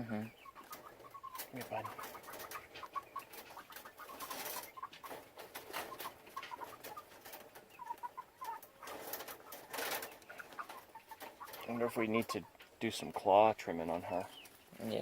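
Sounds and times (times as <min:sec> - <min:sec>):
chickens clucking: 0:00.0 - 0:15.0
rustling: 0:00.6 - 0:13.2.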